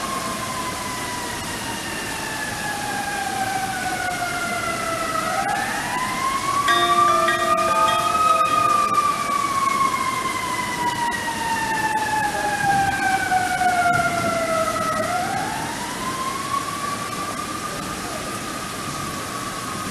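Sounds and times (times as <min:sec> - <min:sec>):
warning siren wailing: 0:00.0 - 0:17.7.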